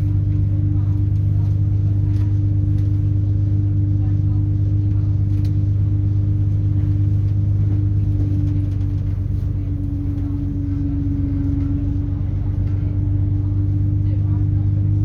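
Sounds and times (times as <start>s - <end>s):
train diesel engine droning: 0.0s - 15.0s.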